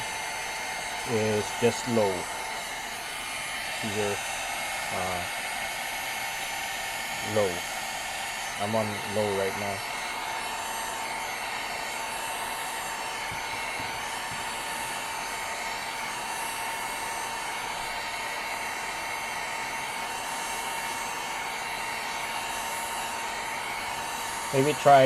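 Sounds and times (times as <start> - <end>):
hot air blower running: 0.0 - 25.0.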